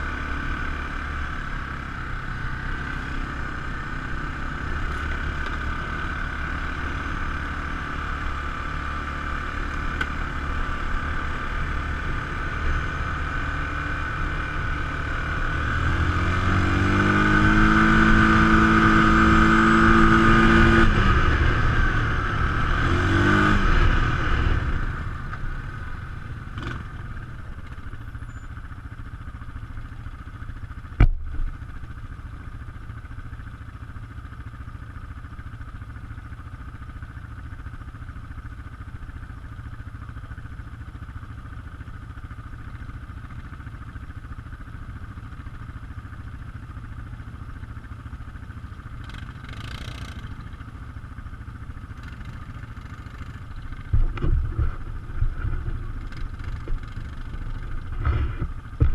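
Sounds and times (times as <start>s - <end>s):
atv engine running at low revs: 0.0s - 58.9s.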